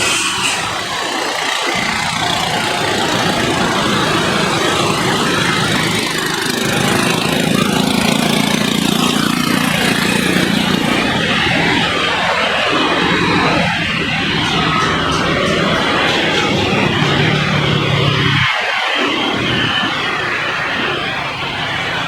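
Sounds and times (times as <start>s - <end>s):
engine noise: 0.0s - 22.0s.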